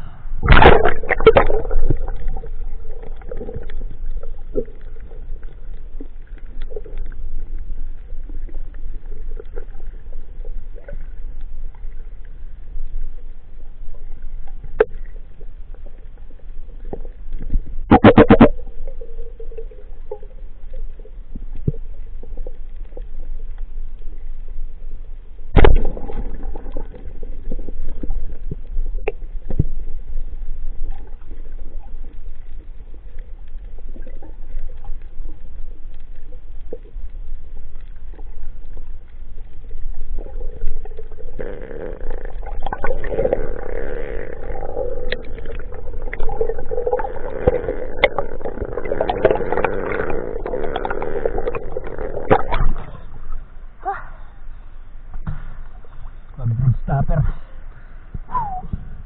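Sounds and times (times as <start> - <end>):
muffled underwater rumble: 0.0 - 59.0.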